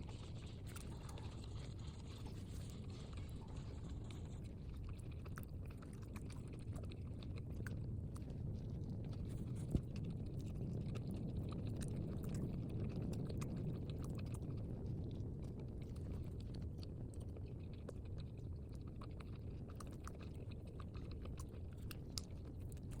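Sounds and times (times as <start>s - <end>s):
low steady rumble: 0.0s - 23.0s
person chewing food: 0.0s - 23.0s.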